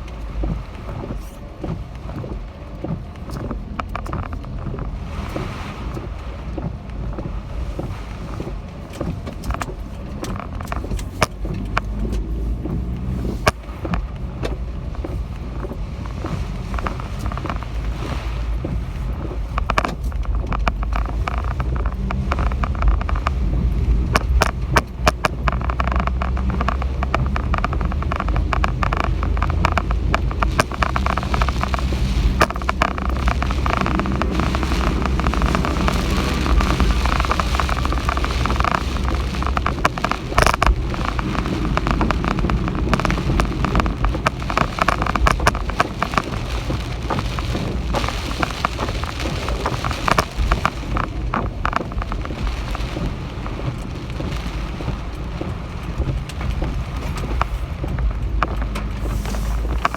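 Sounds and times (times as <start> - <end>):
heavy rain: 0.0 - 59.9
wind buffeting microphone: 0.0 - 59.9.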